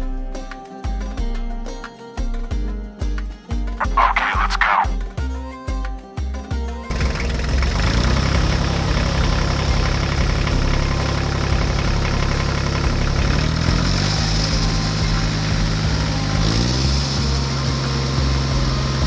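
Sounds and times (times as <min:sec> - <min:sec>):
music: 0:00.0 - 0:19.0
tractor engine idling: 0:00.0 - 0:19.0.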